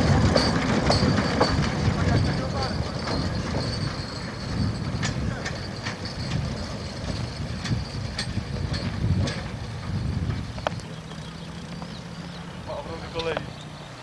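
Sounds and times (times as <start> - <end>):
steam locomotive rumble: 0.0 - 14.0
train knocks and clanks: 0.0 - 14.0.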